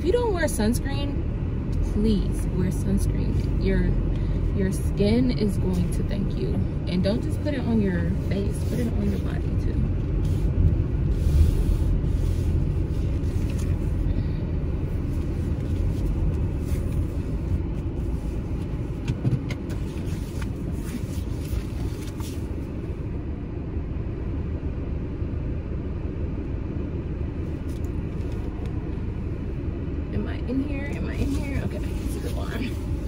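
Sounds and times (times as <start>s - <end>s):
car cabin engine and road rumble: 0.0s - 33.0s.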